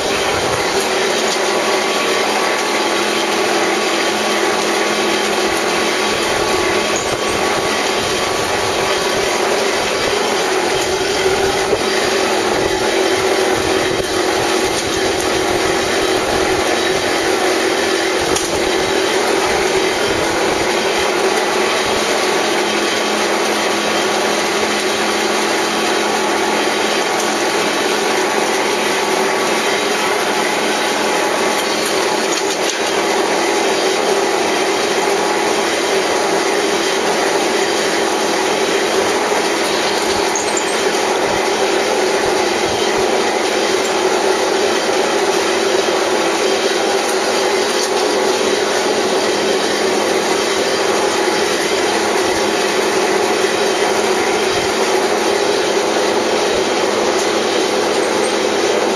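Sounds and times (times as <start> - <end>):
brick extrusion machine running: 0.0 - 58.9.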